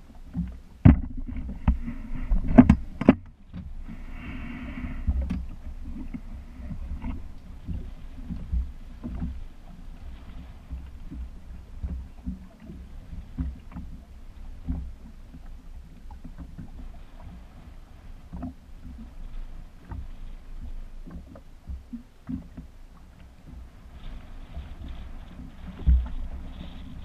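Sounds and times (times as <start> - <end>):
water slapping against boat hull: 0.0 - 4.1, 4.7 - 27.0.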